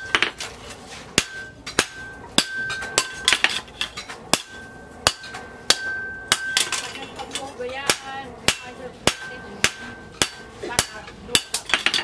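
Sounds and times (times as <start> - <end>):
hammer striking steel on anvil: 1.1 - 12.0
anvil ringing: 1.2 - 12.0.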